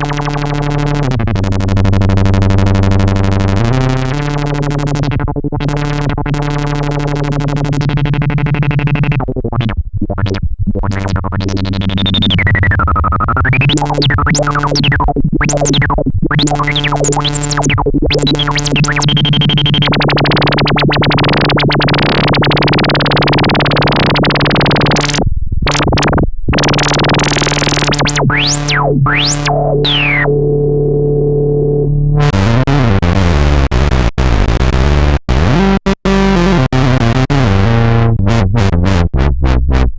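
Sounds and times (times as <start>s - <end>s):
synthesizer filter sweeps: 0.0s - 33.3s.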